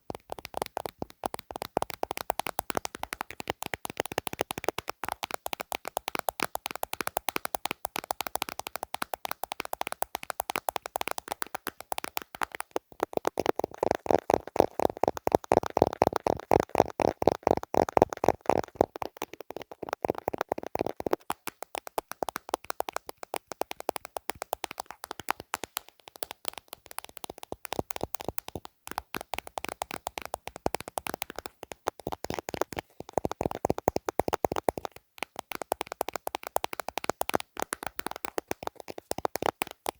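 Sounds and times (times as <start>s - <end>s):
rapid tapping on hard plastic: 0.0s - 39.9s.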